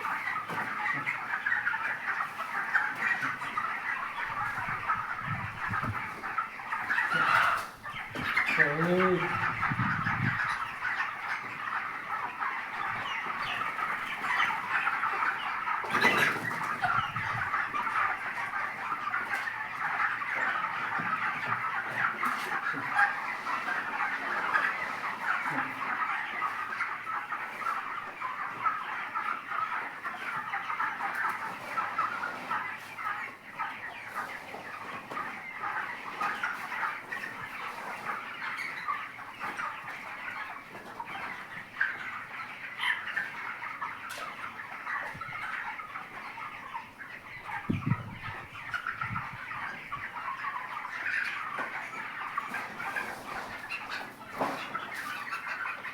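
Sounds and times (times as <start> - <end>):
chickens peeping and clucking: 0.0 - 55.9.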